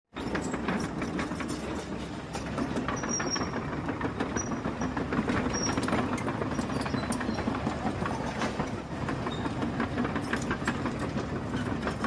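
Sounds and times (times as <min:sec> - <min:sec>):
rapid clicking and rattling: 0:00.2 - 0:12.0.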